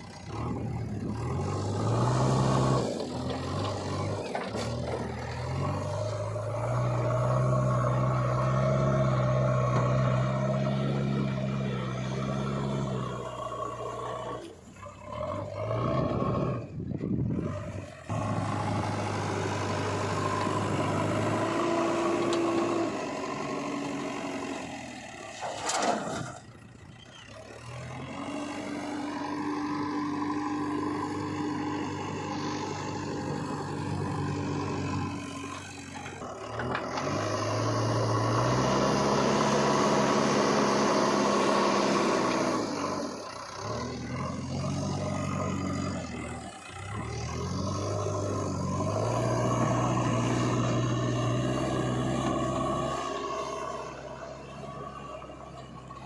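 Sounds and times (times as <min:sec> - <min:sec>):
diesel engines revving: 0:00.0 - 0:56.0.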